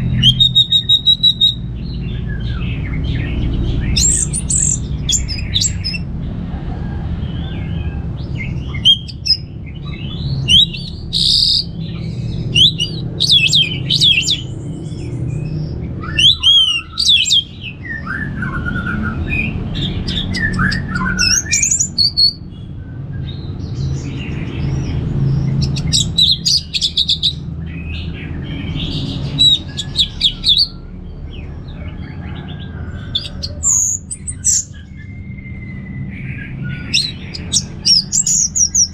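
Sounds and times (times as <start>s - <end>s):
bird singing: 0.0s - 6.3s, 7.3s - 38.9s.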